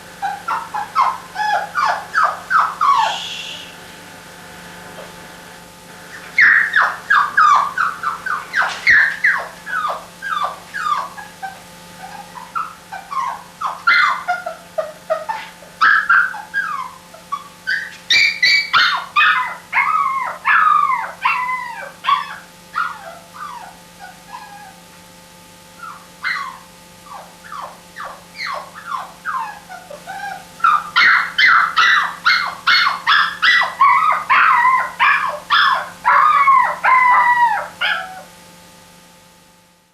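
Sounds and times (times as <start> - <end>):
puppy whimpering and yipping: 0.2 - 3.3, 6.4 - 24.8, 25.8 - 38.3.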